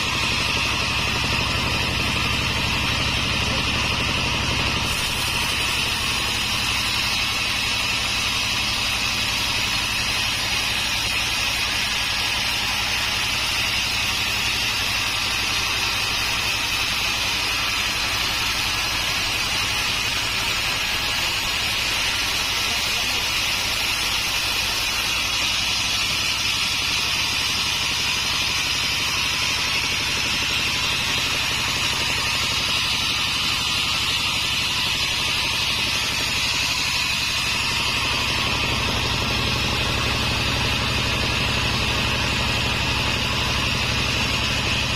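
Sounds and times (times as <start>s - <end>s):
low motor hum: 0.0s - 44.9s
saw blade hissing through log: 0.0s - 44.9s.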